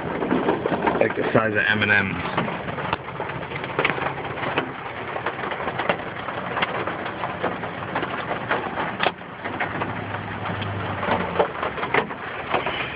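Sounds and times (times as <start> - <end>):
hail pattering on a truck: 0.0 - 12.9
sharp hail hits: 0.0 - 12.9.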